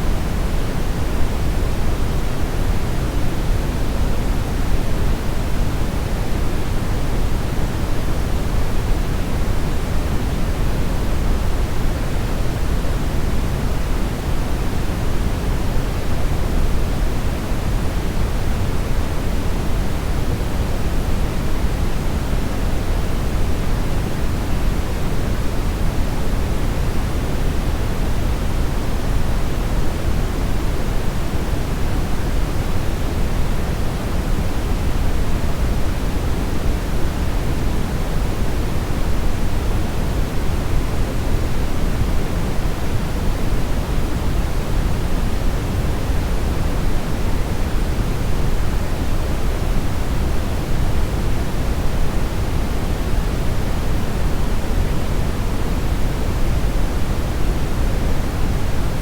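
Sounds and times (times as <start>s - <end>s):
low brownish noise hiss: 0.0s - 59.0s.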